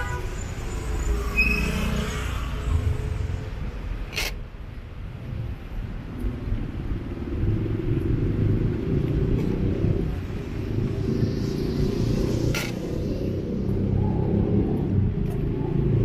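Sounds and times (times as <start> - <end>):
passing vehicles rumbling: 0.0 - 16.0.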